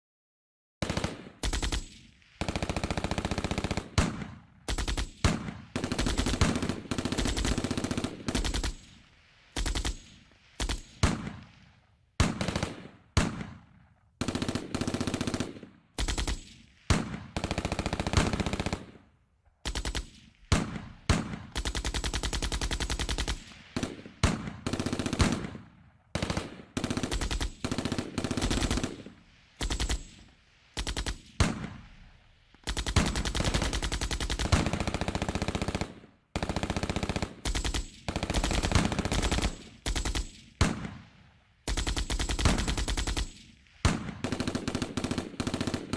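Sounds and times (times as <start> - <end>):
machine gun firing in bursts: 0.8 - 45.9.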